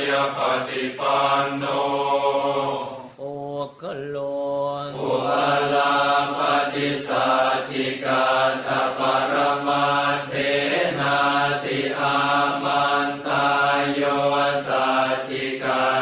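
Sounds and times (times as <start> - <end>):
voices chanting: 0.0 - 16.0.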